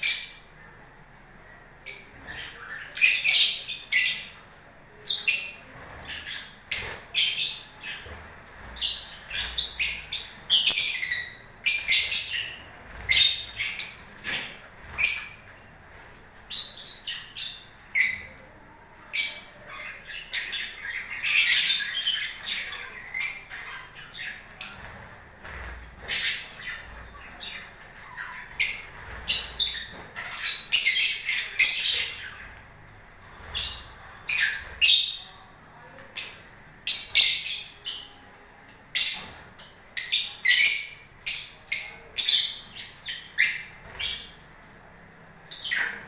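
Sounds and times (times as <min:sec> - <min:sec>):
birds chirping and screeching: 0:00.0 - 0:46.0.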